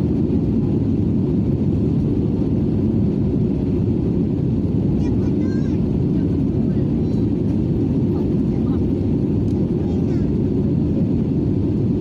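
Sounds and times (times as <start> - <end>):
airplane cabin engine drone: 0.0 - 12.0.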